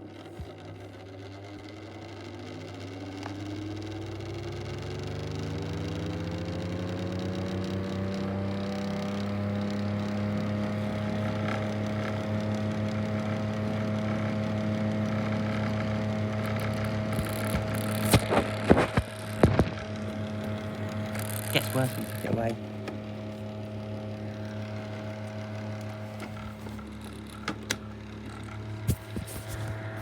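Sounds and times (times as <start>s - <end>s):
fan motor humming and whirring: 0.0s - 30.0s
motor knocking and grinding: 0.0s - 30.0s.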